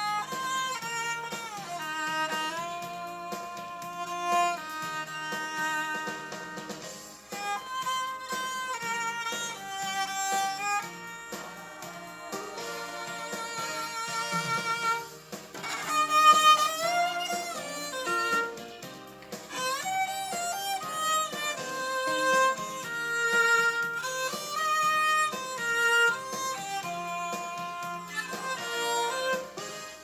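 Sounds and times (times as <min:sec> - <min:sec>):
backing accompaniment: 0:00.0 - 0:30.0
muted violin melody: 0:00.0 - 0:30.0.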